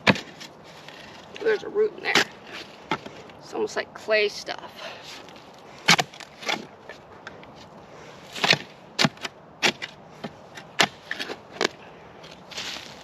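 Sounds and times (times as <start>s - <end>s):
shovel striking and scraping soil: 0.0s - 3.3s, 5.0s - 7.0s, 7.6s - 13.0s.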